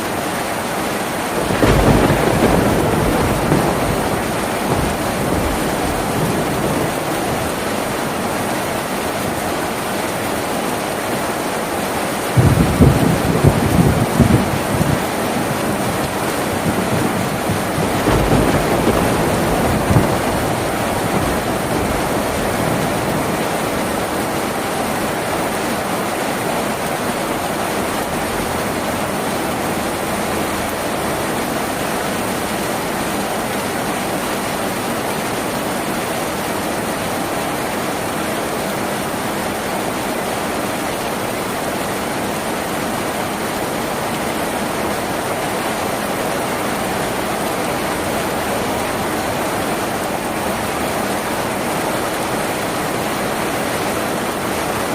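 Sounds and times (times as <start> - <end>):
rain on a tin roof: 0.0 - 54.9.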